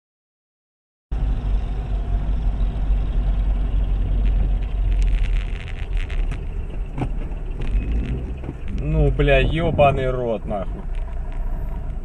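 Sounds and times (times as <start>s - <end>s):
car engine and road noise: 1.1s - 12.0s.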